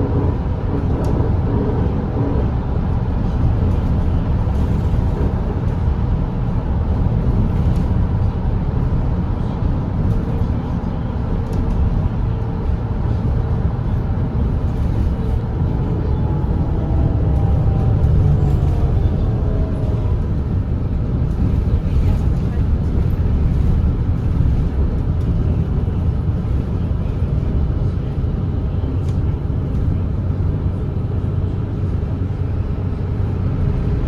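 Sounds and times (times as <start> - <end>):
bus diesel engine rumbling: 0.0 - 34.0
road noise: 0.0 - 34.0.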